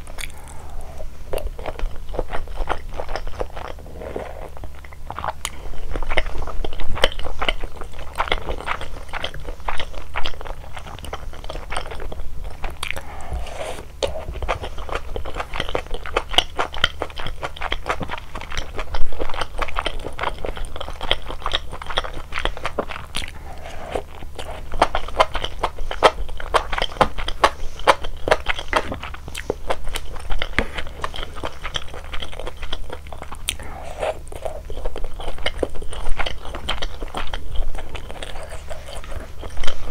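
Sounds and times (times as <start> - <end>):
crunchy chewing: 0.0 - 39.9
faint low hum: 0.0 - 39.9.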